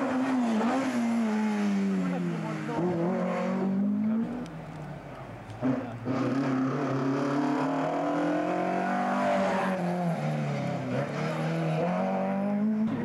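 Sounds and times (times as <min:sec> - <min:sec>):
rally car engine revving: 0:00.0 - 0:04.9, 0:05.5 - 0:13.0.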